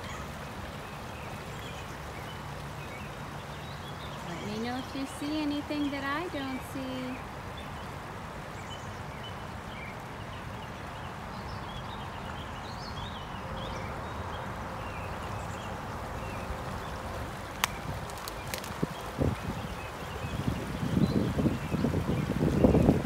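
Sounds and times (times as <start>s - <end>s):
stream water over rocks: 0.0s - 23.0s.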